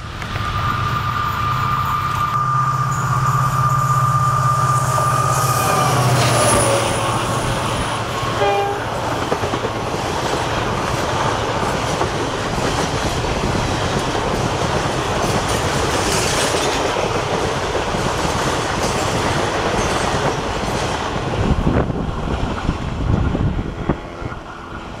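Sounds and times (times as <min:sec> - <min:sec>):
train rolling past: 0:00.0 - 0:25.0.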